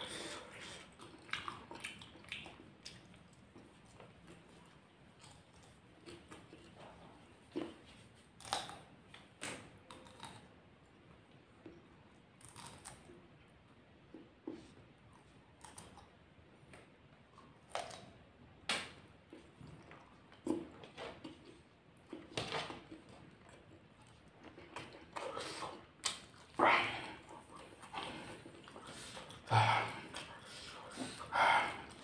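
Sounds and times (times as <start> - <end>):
person chewing food: 0.0 - 10.6, 11.3 - 13.4, 14.0 - 18.3, 19.2 - 32.0.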